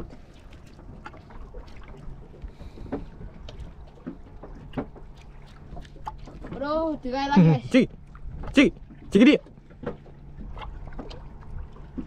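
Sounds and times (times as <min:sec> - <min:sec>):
knocks and clicks from boat: 0:00.0 - 0:12.0
low steady hum: 0:00.0 - 0:12.0
water lapping against boat hull: 0:00.0 - 0:12.0.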